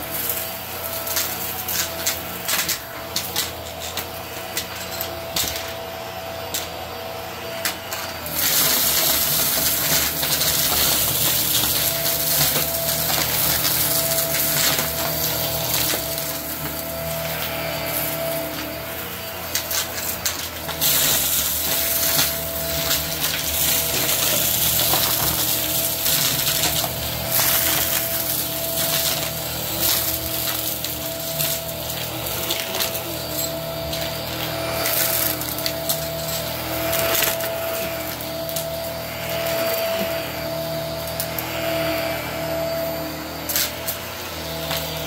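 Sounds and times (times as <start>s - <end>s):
vacuum cleaner motor whine: 0.0s - 45.0s
debris rattling through vacuum nozzle: 7.8s - 45.0s.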